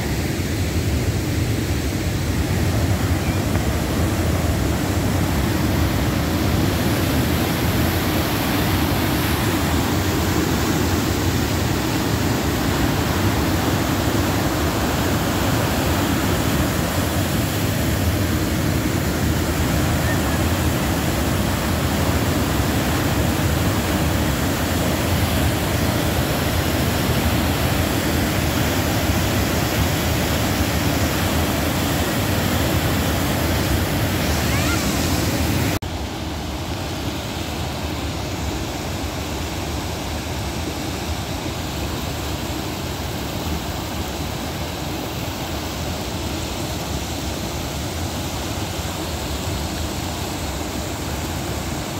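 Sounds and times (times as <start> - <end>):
shallow creek spilling over rocks: 0.0 - 51.9
whitewater river rushing over rapids: 0.0 - 51.9.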